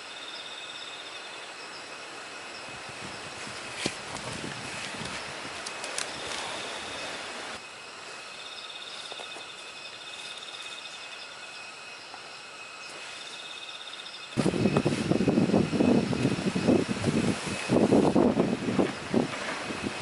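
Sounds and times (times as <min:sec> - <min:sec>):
even hiss: 0:00.0 - 0:20.0
insects trilling: 0:00.0 - 0:20.0.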